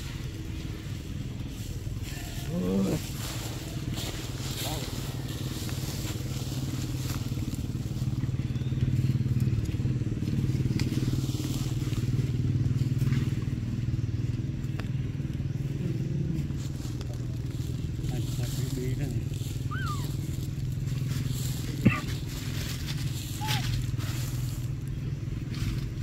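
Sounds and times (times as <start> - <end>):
dry leaves crackling: 0.0 - 26.0
small engine droning: 0.0 - 26.0.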